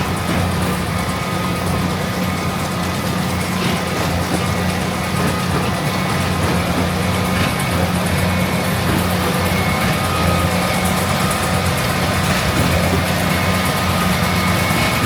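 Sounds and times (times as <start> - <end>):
diesel engine hum: 0.0 - 15.0.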